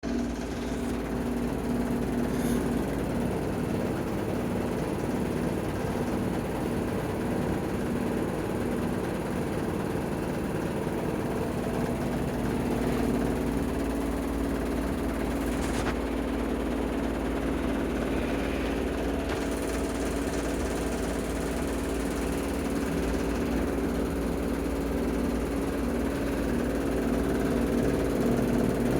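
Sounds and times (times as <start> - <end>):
washing machine spinning: 0.0 - 28.9.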